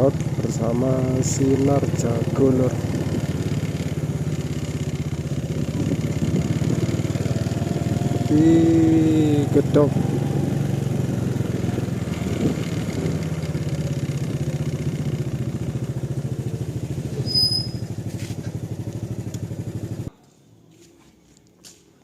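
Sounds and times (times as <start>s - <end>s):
engine running: 0.0s - 20.1s.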